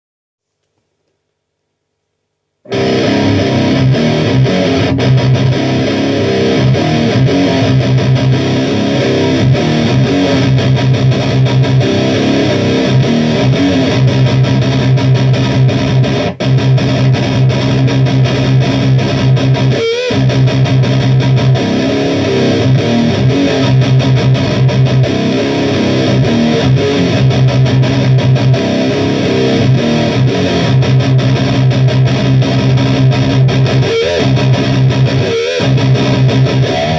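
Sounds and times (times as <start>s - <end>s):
distorted electric guitar: 2.6s - 36.9s.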